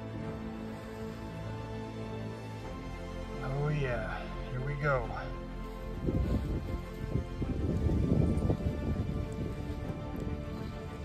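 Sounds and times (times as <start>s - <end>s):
background music with sustained notes: 0.0s - 11.0s.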